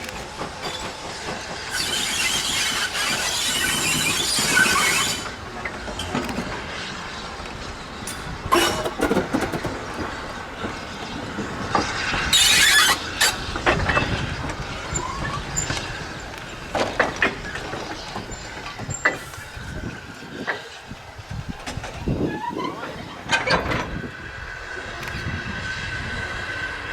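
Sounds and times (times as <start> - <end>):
clanks of wheels and couplings: 0.0 - 25.4
steam train running on rails: 0.0 - 26.9.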